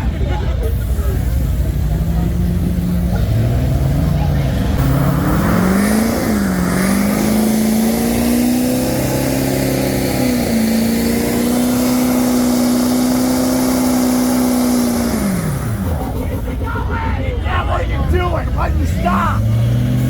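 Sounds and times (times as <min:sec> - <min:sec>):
engine revving at high revs: 0:01.2 - 0:17.1, 0:18.0 - 0:20.0.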